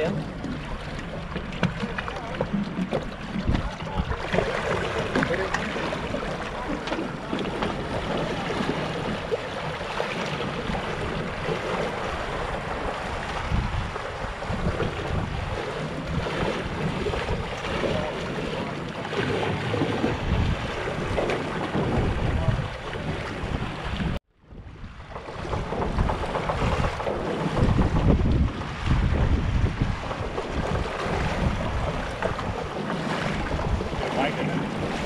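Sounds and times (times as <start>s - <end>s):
seawater splashing from wading: 0.0s - 24.2s, 25.0s - 35.0s
wind buffeting microphone: 0.0s - 35.0s.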